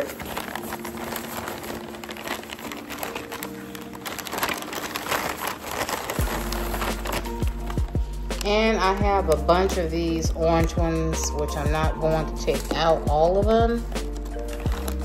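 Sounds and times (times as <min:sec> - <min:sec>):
faint background music: 0:00.0 - 0:15.0
paper and plastic bag crinkling: 0:00.0 - 0:15.0.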